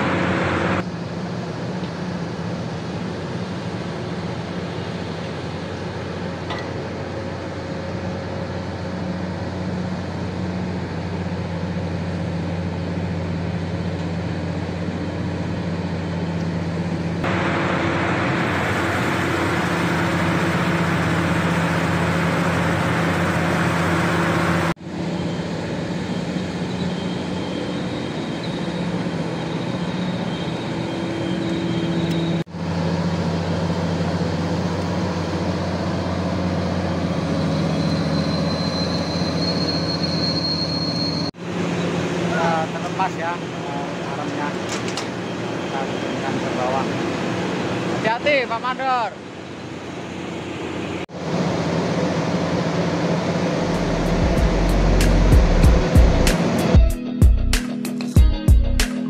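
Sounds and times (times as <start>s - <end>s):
excavator diesel engine running: 0.0s - 57.6s.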